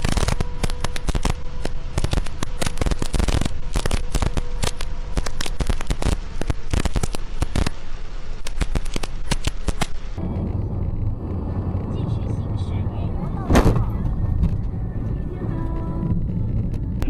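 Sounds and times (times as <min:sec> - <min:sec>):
faint steady hum: 0:00.0 - 0:17.0
heavy rain on a windshield: 0:00.0 - 0:17.0.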